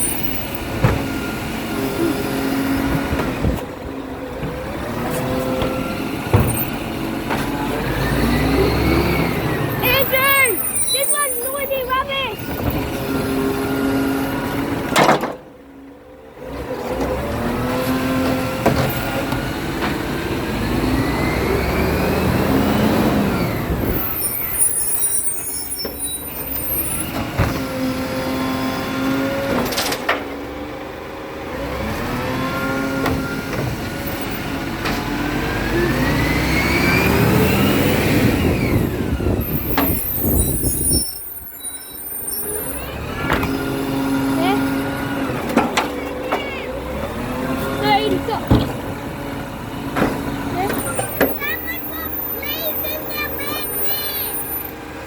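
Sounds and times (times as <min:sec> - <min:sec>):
garbage truck engine revving: 0:00.0 - 0:55.0.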